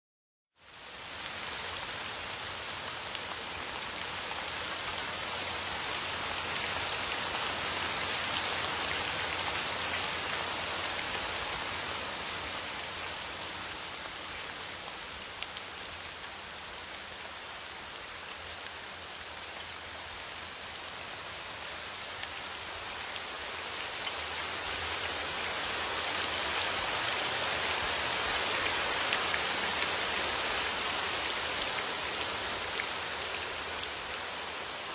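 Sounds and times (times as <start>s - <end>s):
rain falling: 0.6s - 34.9s.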